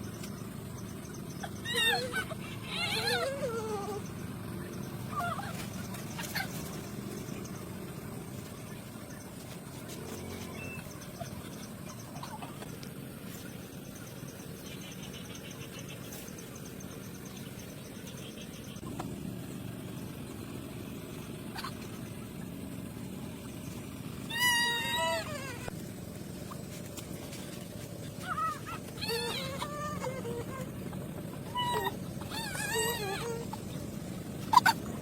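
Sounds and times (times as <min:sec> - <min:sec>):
poultry calling: 0:00.0 - 0:19.3, 0:21.2 - 0:35.0.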